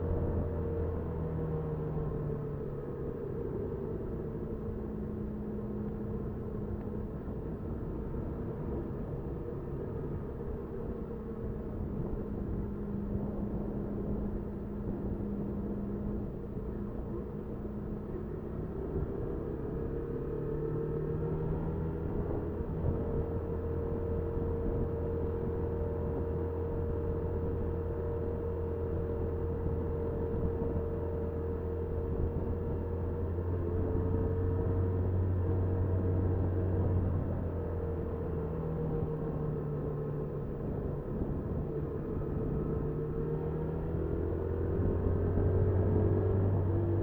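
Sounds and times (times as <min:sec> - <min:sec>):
road and wind noise: 0:00.0 - 0:47.0
small engine running steadily: 0:00.0 - 0:47.0.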